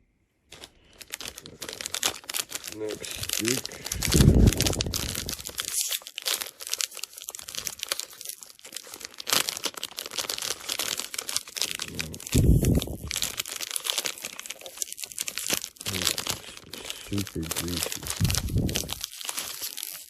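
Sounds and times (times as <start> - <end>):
packaging crinkling and tearing: 0.5 - 20.0.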